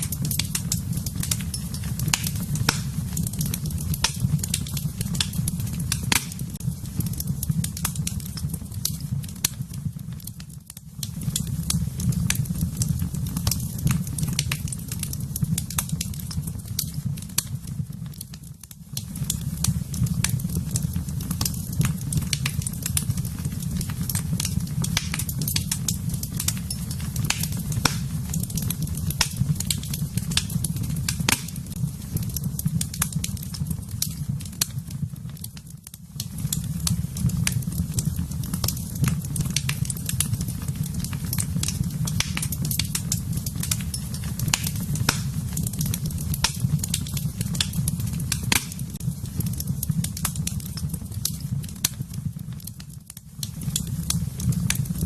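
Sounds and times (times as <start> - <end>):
burning wood crackling and popping: 0.0 - 55.0
fire flames rumbling: 0.0 - 55.0.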